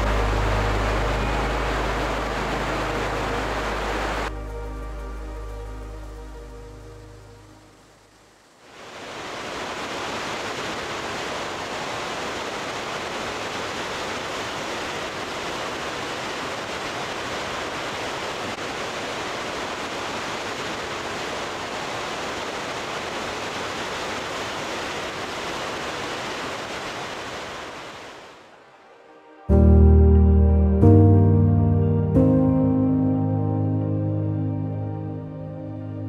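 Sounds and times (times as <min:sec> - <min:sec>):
running water rushing: 0:00.0 - 0:28.9.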